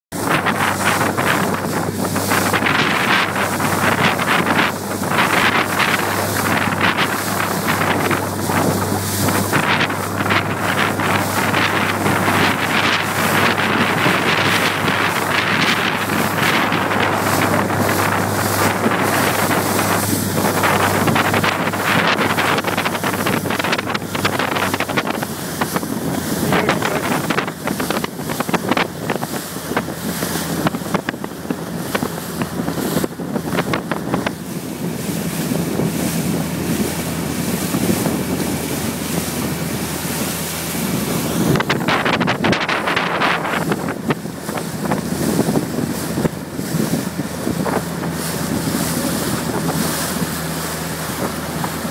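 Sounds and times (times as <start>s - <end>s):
choppy water rushing and slapping: 0.1s - 51.9s
wind buffeting the microphone: 0.1s - 51.9s.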